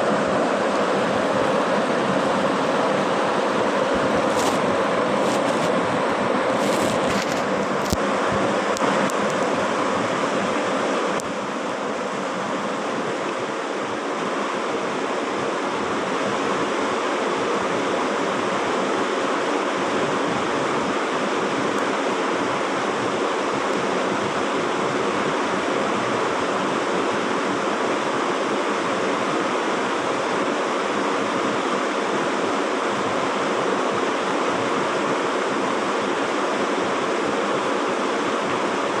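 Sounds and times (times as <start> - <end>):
flowing stream water: 0.0 - 39.0.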